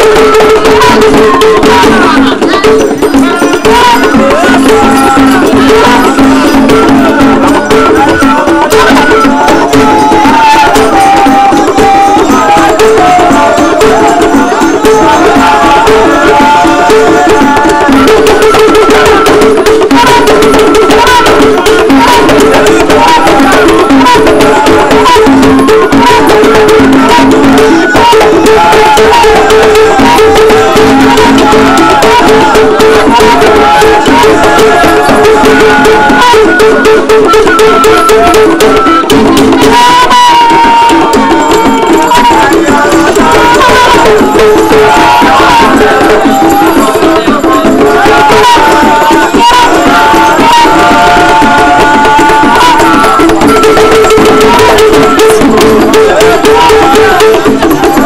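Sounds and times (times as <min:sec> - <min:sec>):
drums and rattles rhythm: 0:00.0 - 0:58.0.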